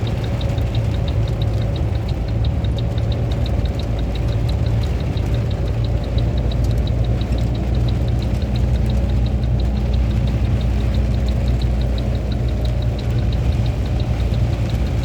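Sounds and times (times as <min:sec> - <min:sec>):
fast high-pitched ticking: 0:00.0 - 0:15.0
vehicle engine running: 0:00.0 - 0:15.0.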